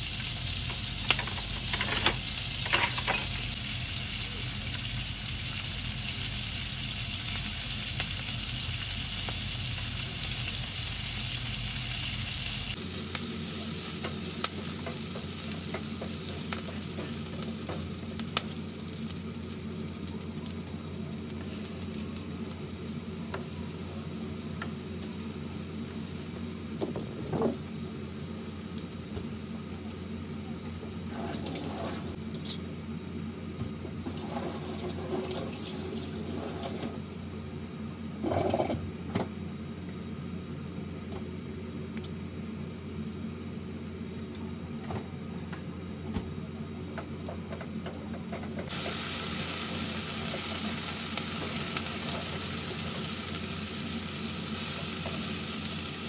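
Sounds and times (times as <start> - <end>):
broccoli sizzling in oil: 0.0 - 38.6, 48.6 - 56.0.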